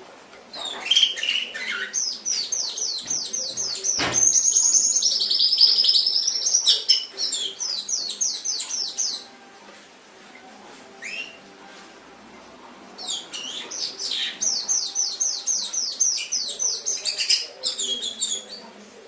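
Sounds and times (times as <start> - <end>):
canary singing: 0.5 - 9.6, 10.2 - 18.8.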